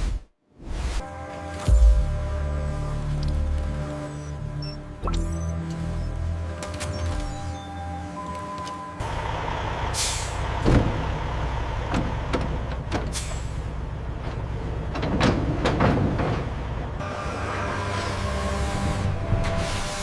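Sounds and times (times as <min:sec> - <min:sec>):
truck engine rumbling: 0:01.3 - 0:20.0.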